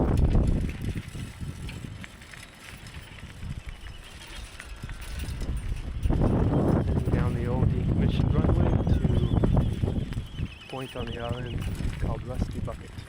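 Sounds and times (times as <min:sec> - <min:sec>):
bicycle clicks and rattles: 0:00.0 - 0:13.0
wind rumbling on microphone: 0:00.0 - 0:13.0.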